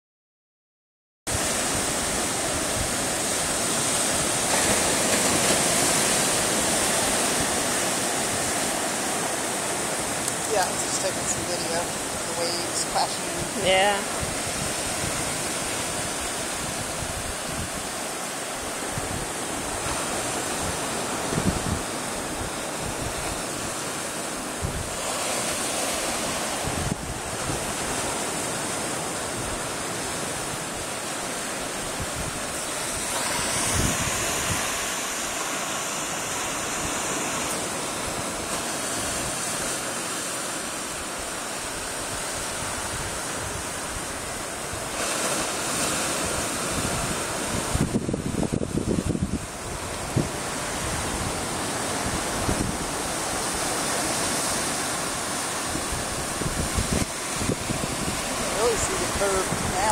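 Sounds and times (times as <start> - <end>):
wind buffeting microphone: 1.3 - 40.0, 41.0 - 59.9
ocean waves crashing: 1.3 - 59.9.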